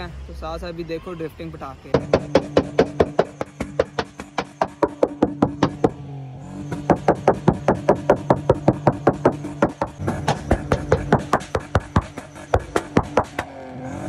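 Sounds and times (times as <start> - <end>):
car engine droning: 1.8 - 14.0
car exhaust popping: 1.9 - 13.6.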